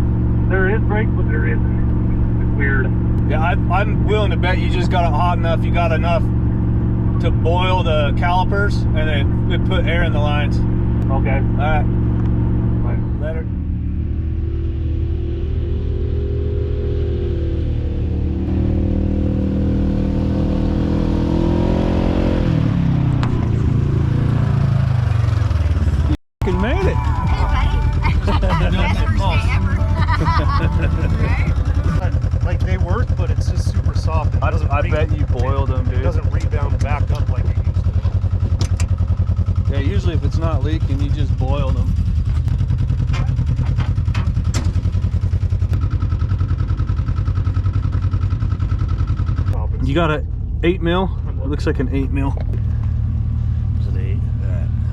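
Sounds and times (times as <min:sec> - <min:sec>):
side-by-side engine running: 0:00.0 - 0:54.9.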